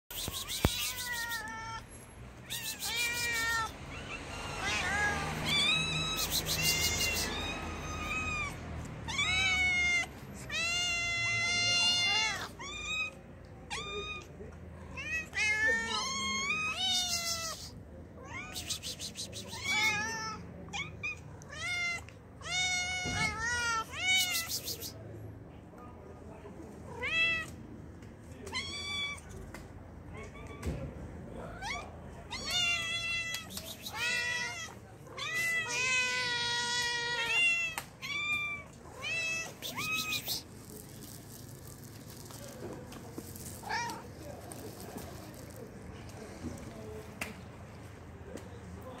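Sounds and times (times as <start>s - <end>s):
cats meowing: 0.1s - 25.0s, 26.9s - 27.6s, 28.4s - 29.4s, 30.1s - 45.6s.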